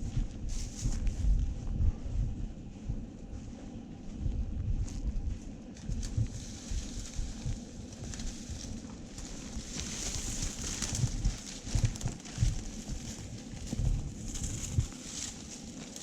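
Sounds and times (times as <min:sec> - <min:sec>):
footsteps through brush and grass: 0:00.0 - 0:16.0.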